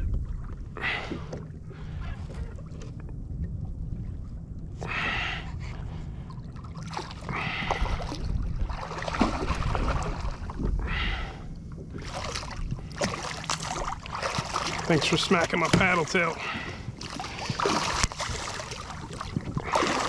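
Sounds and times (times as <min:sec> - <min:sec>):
water splashing around kayak: 0:00.0 - 0:20.0
wind rumble on microphone: 0:00.0 - 0:20.0.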